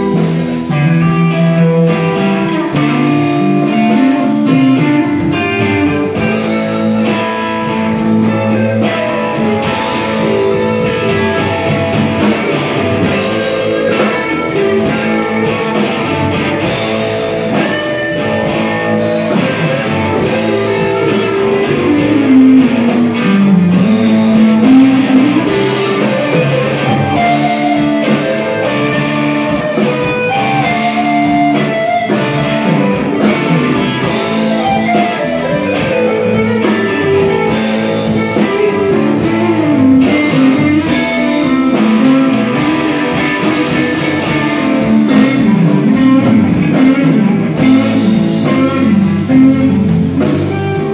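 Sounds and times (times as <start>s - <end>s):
blues band playing: 0.0s - 50.9s
low sliding bass line: 0.0s - 50.9s.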